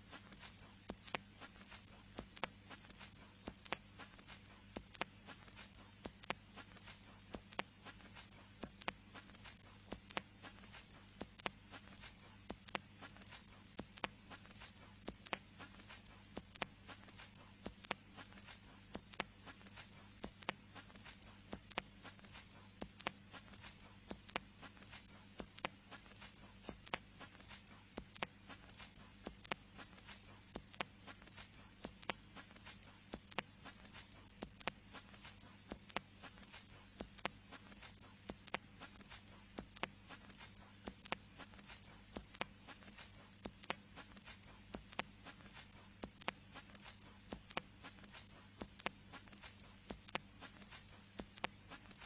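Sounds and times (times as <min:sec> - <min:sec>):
low mains hum: 0:00.0 - 0:52.0
vinyl record clicks and pops: 0:00.0 - 0:52.0.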